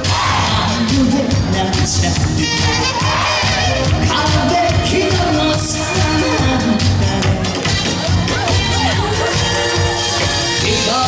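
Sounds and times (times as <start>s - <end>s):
backing track with bass beat: 0.0s - 11.0s
person singing through loudspeakers: 0.0s - 11.0s.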